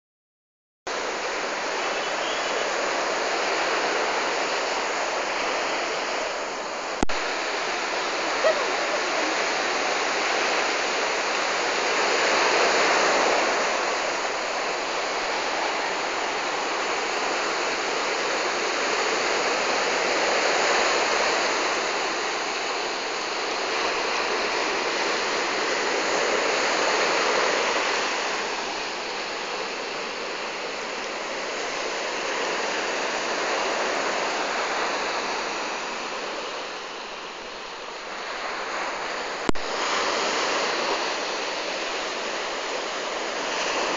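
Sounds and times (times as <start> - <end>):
surf breaking on beach: 0.9 - 43.9.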